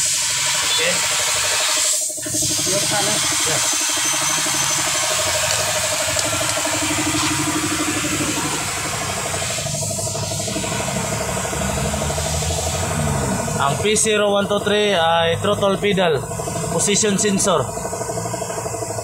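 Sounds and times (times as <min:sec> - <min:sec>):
auto-rickshaw engine idling: 0:00.0 - 0:19.0.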